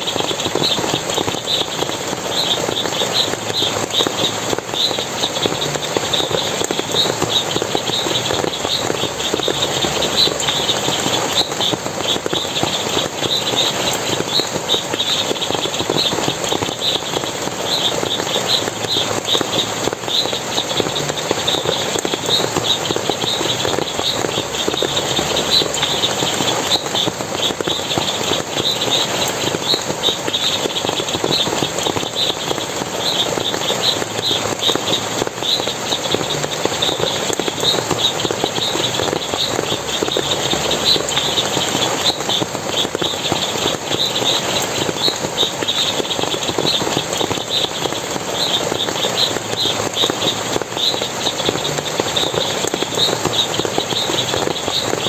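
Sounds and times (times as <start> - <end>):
flowing water splashing: 0.0 - 55.0.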